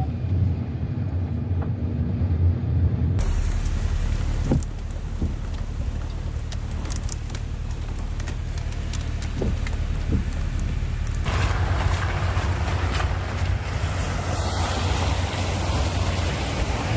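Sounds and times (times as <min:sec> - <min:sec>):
heavy low storm rumble: 0:00.0 - 0:16.9.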